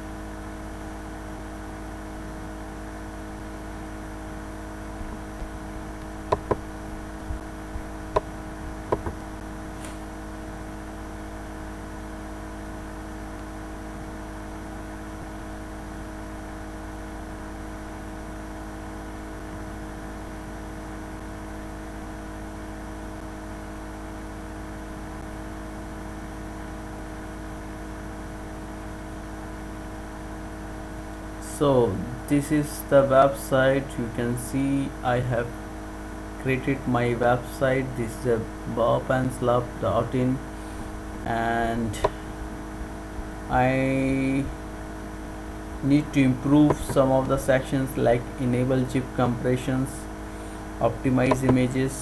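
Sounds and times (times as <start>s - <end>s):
steady background hum and hiss: 0.0s - 52.0s.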